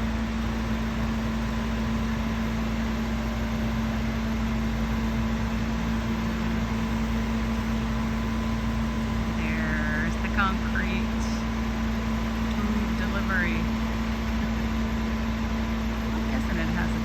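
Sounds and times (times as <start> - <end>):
concrete mixer engine drone: 0.0 - 17.0.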